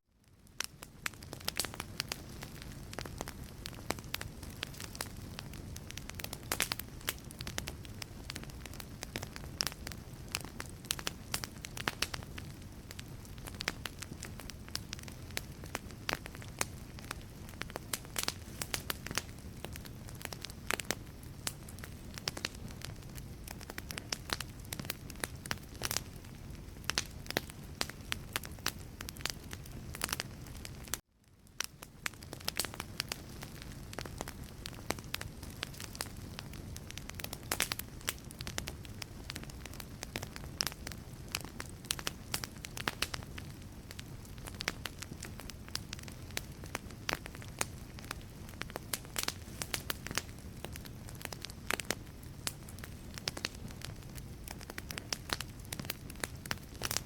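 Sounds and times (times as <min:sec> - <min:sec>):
low rush of flame: 0:00.2 - 0:57.0
wood fire crackling and popping: 0:00.2 - 0:57.0.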